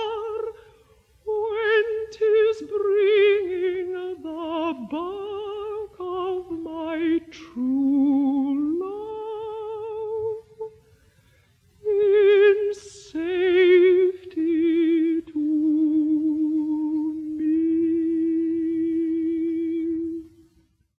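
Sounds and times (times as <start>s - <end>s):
woman singing unaccompanied: 0.0s - 10.8s, 11.8s - 20.6s.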